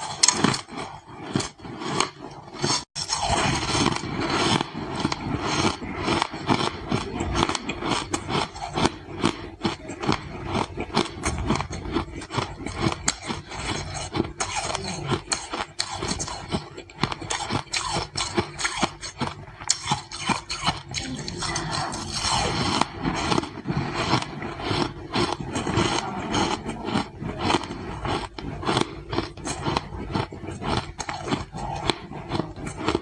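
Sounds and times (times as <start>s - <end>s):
ice crunching being chewed: 0.0s - 33.0s.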